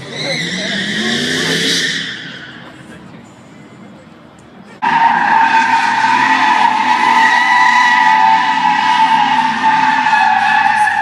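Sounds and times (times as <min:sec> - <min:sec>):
truck tires squealing on pavement: 0:00.0 - 0:02.8, 0:04.8 - 0:11.0.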